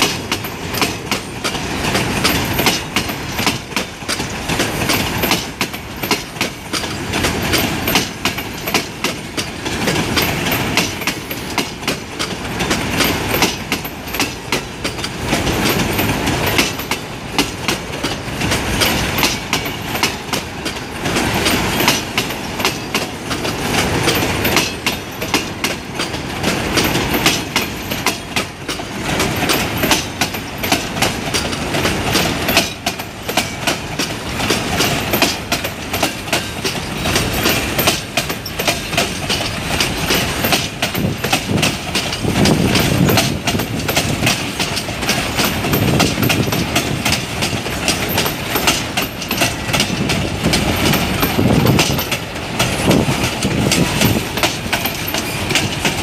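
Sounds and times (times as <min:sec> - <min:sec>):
freight train rolling past: 0:00.0 - 0:56.0
wheels clattering over rail joints: 0:00.0 - 0:56.0.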